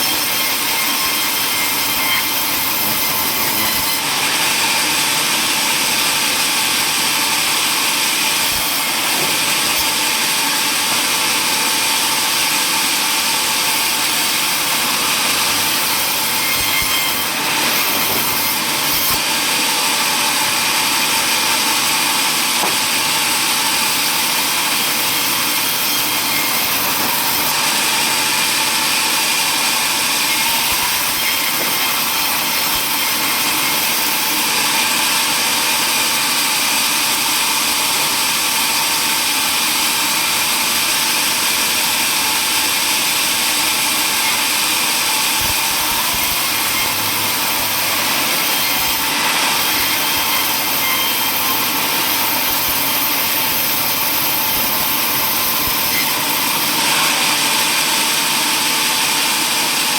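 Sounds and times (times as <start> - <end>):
power saw cutting wood: 0.0 - 59.9.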